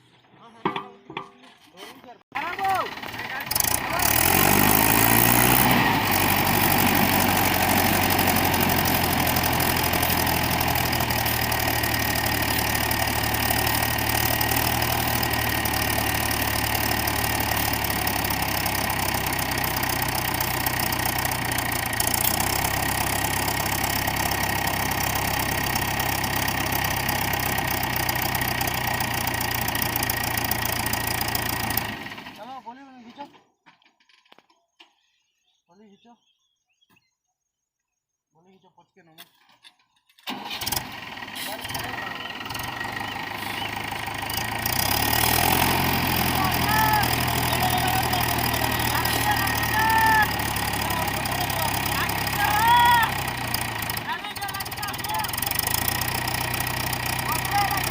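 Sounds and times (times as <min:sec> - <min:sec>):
tractor diesel engine running: 0:02.4 - 0:32.6, 0:40.2 - 0:57.9.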